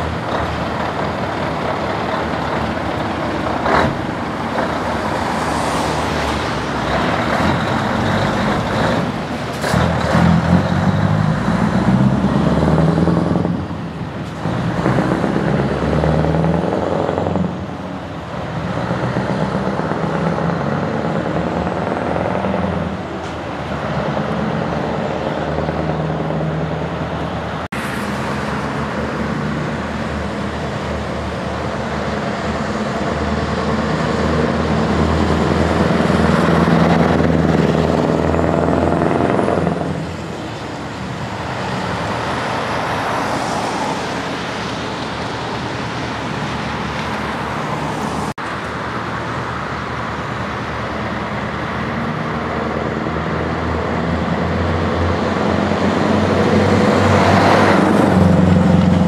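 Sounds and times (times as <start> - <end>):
road traffic passing: 0.0 - 59.0
truck diesel engine under load: 0.0 - 59.0.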